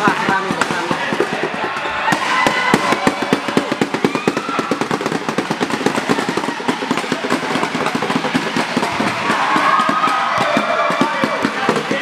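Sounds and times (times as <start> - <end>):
rapid sharp cracks and pops: 2.1 - 12.0.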